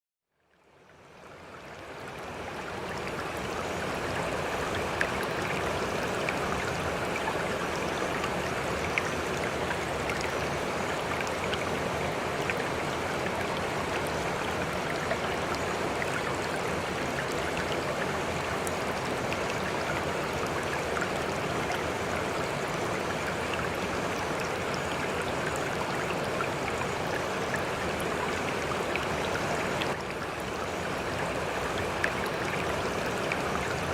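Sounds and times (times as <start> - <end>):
river water flowing: 0.4 - 33.9.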